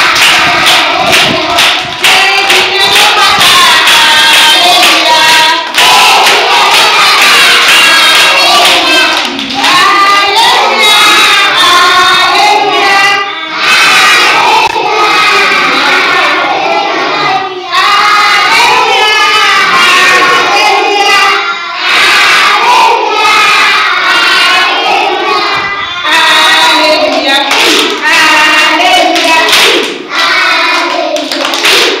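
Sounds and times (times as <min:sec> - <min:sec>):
children clapping: 0:00.0 - 0:32.0
children singing: 0:00.0 - 0:32.0.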